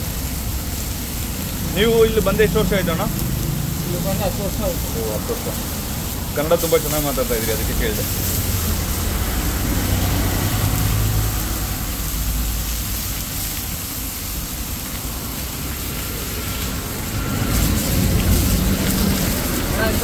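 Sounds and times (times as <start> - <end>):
fish sizzling on griddle: 0.0 - 20.0
road traffic rumble: 0.0 - 20.0.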